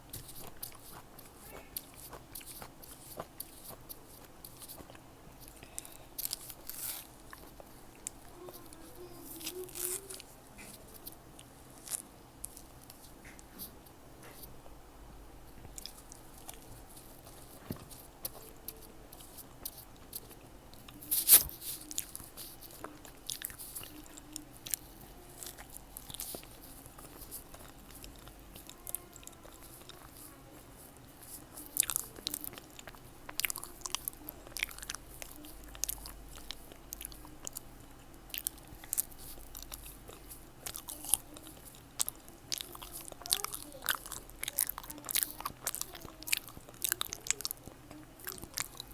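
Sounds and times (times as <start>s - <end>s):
crisp fruit bites and chewing: 0.0s - 14.6s, 15.7s - 48.9s.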